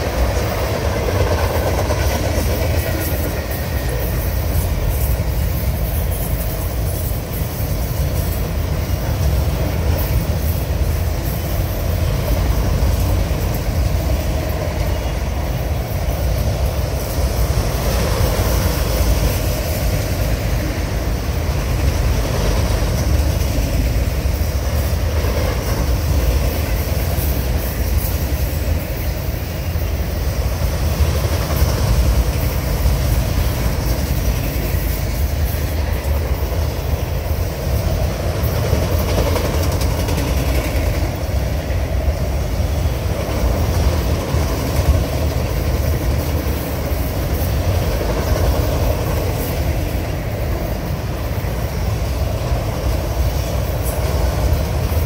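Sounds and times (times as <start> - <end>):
freight train rumbling: 0.0 - 55.0
wheels clicking on rails: 0.0 - 55.0.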